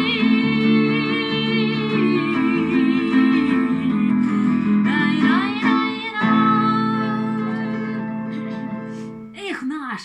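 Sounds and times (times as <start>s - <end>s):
acoustic guitar chords: 0.0s - 9.4s.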